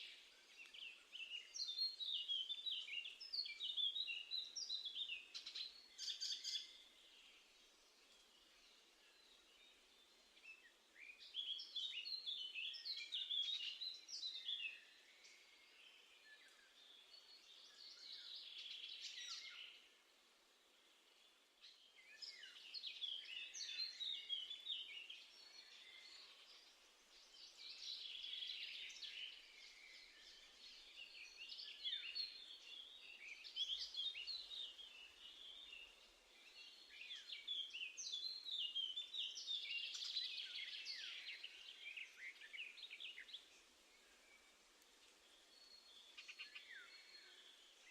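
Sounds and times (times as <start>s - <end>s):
songbirds twittering: 0.0s - 47.9s.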